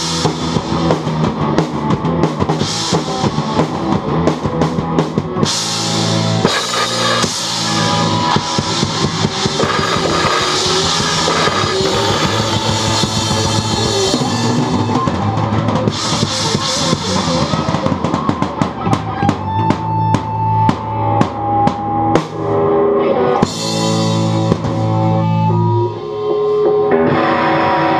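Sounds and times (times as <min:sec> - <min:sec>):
drum kit playing: 0:00.0 - 0:22.8, 0:23.4 - 0:27.9
recorded rock song: 0:00.0 - 0:27.9.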